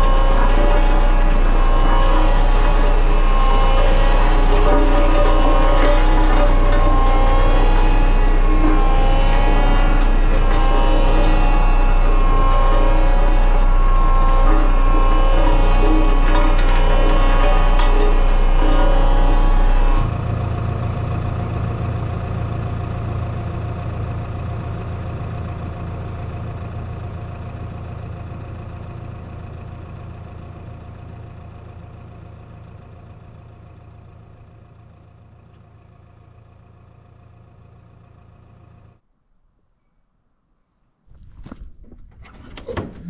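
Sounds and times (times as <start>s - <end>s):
diesel roller engine running: 0.0s - 39.0s.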